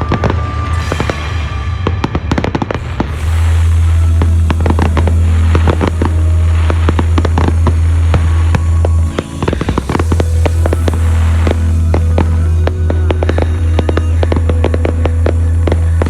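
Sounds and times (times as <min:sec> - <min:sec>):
fireworks bangs and crackles: 0:00.0 - 0:16.0
heavy low rumble: 0:00.0 - 0:16.0.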